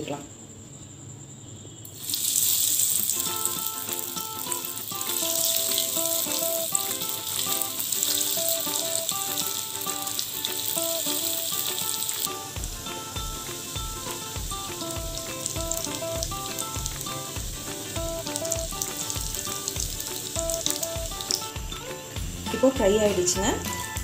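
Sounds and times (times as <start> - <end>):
patties sizzling in hot oil: 1.9 - 24.0.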